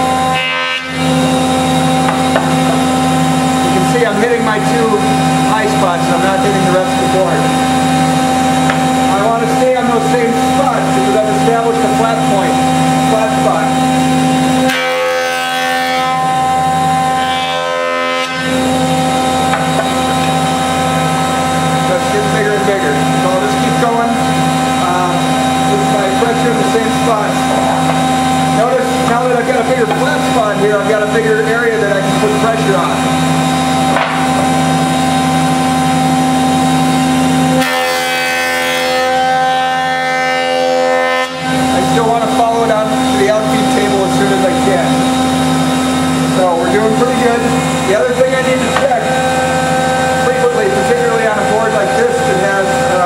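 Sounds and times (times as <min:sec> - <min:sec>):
jointer humming: 0:00.0 - 0:53.0
jointer planing a board: 0:00.0 - 0:53.0.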